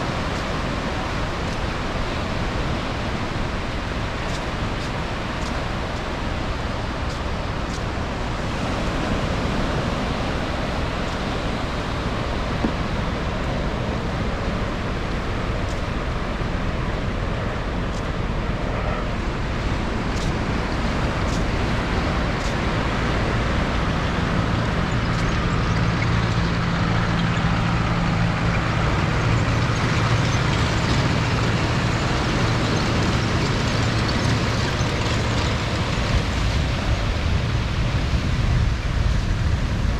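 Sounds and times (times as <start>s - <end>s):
ocean surf: 0.0s - 39.9s
vehicle engine drone: 0.0s - 39.9s
wind: 0.0s - 39.9s.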